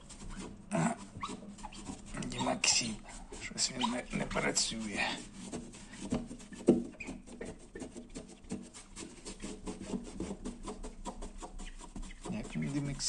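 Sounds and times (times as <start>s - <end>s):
fingers squeaking on window glass: 0.0s - 8.7s, 10.6s - 13.0s.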